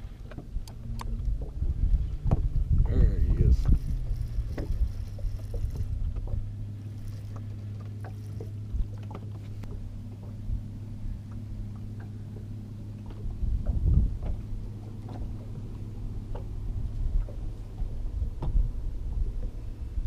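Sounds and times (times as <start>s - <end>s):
electric trolling motor humming: 0.0s - 20.0s.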